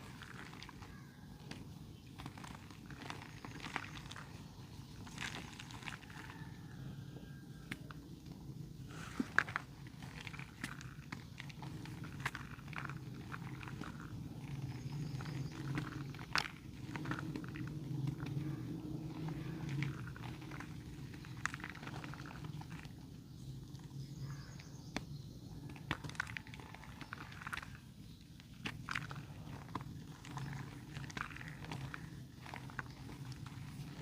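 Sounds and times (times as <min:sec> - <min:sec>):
dry mud crumbling and crackling: 0:00.0 - 0:34.0
low steady hum: 0:00.0 - 0:34.0.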